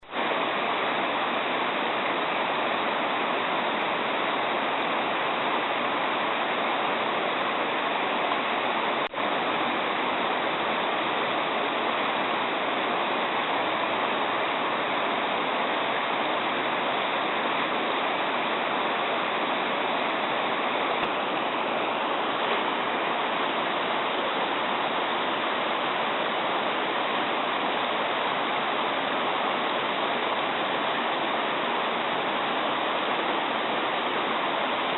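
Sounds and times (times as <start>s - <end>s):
stream babbling: 0.0s - 34.9s.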